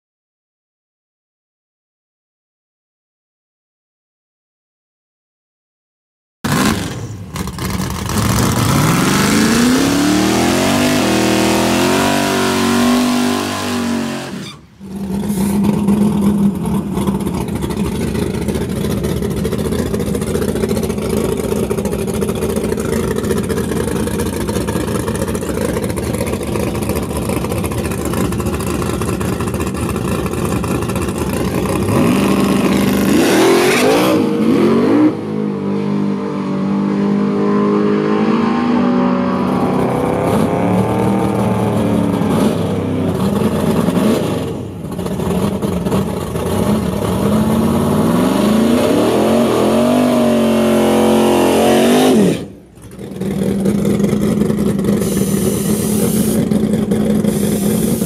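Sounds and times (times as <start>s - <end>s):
car engine revving and idling: 6.5s - 58.0s.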